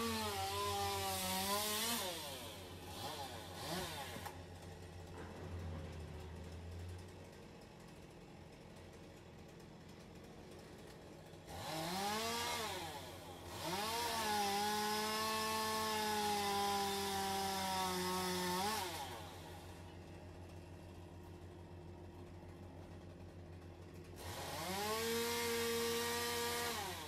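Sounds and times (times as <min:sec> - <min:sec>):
chainsaw revving: 0:00.0 - 0:20.1, 0:22.0 - 0:27.0.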